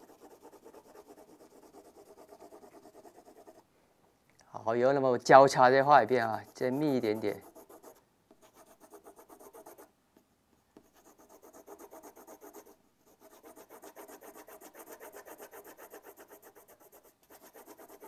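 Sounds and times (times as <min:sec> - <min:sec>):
pencil hatching on paper: 0:00.0 - 0:03.6, 0:06.3 - 0:09.9, 0:10.8 - 0:18.0.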